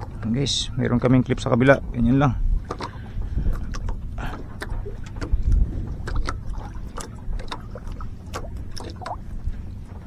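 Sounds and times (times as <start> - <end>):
wind and water rumble: 0.0 - 10.0.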